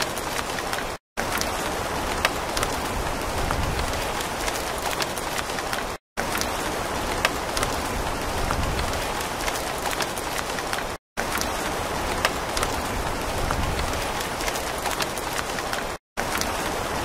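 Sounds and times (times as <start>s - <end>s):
steady rain with drop taps: 0.0s - 17.0s.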